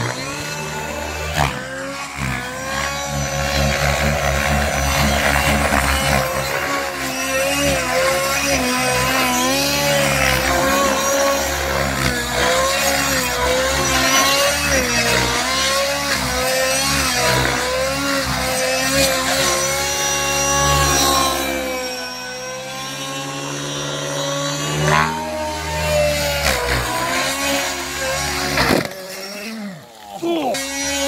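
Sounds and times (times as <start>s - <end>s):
rc helicopter engine whine: 0.0s - 31.0s.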